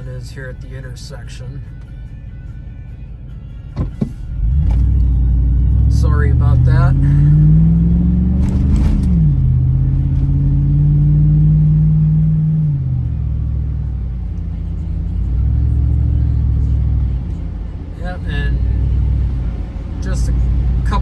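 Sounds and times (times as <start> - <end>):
road rumble: 0.0 - 21.0
car engine accelerating: 3.8 - 21.0.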